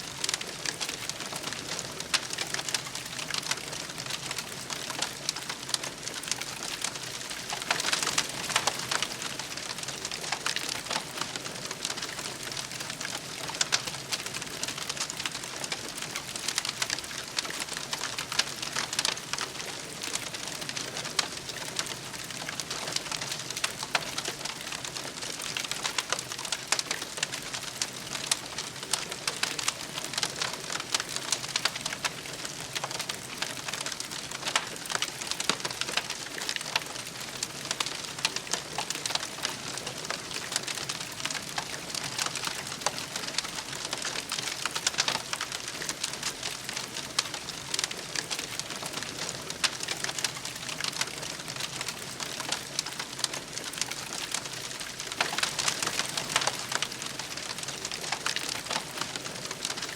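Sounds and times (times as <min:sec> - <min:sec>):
campfire crackling and hissing: 0:00.0 - 0:59.9.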